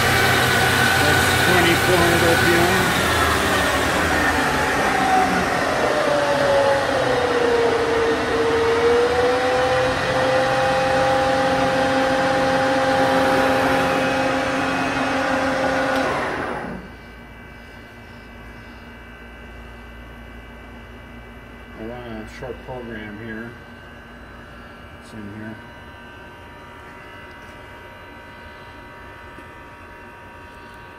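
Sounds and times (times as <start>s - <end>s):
lathe spindle whirring and whining: 0.0s - 30.9s
low steady machine hum: 0.0s - 30.9s.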